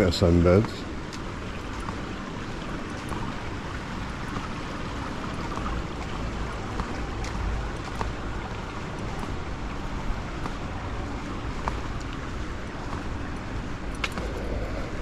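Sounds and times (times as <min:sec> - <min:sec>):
rushing outdoor noise: 0:00.0 - 0:15.0
low rumble: 0:01.3 - 0:15.0.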